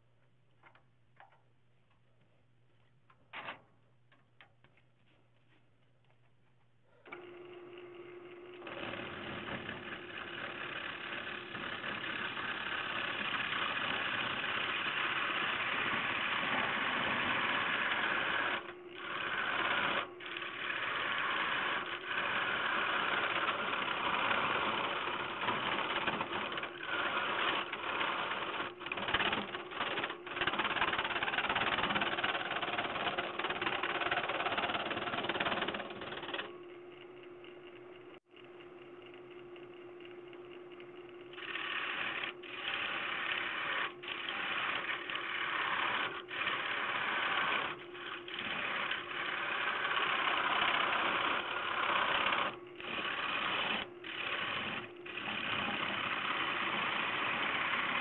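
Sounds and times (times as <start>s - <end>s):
lathe motor hum: 7.0s - 58.0s
gouge scraping spinning wood: 8.3s - 38.5s, 41.2s - 58.0s.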